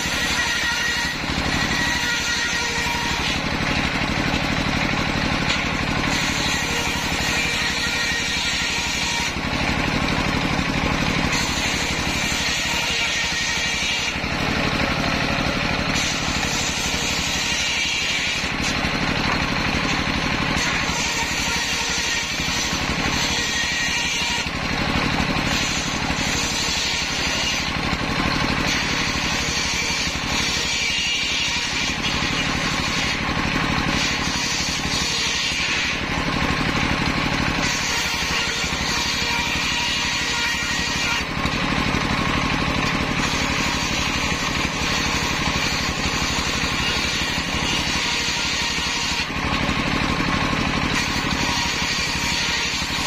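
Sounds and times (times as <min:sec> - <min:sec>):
circular saw cutting wood: 0:00.0 - 0:53.0
stationary engine running: 0:00.0 - 0:53.0.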